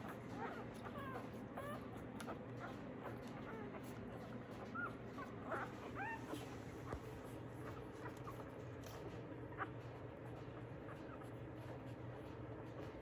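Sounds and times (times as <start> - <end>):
puppies squeaking and whimpering: 0.0 - 13.0.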